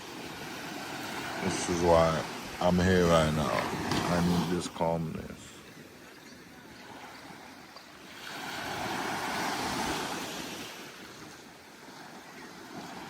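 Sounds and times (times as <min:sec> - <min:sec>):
ocean wave washing on beach: 0:00.0 - 0:13.0.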